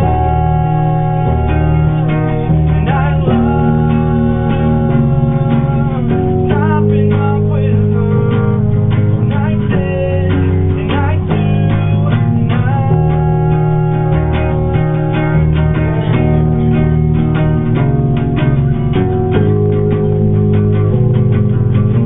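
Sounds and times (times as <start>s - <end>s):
low bass line: 0.0s - 22.0s
strummed guitar chords: 0.0s - 22.0s.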